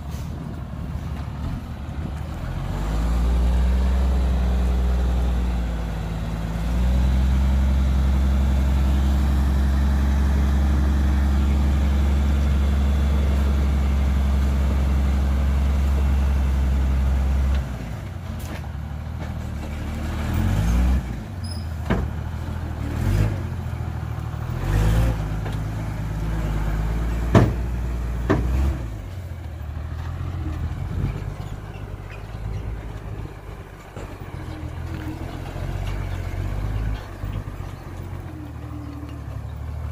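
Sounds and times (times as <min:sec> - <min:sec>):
diesel truck engine revving: 0:00.0 - 0:18.2, 0:18.9 - 0:39.9.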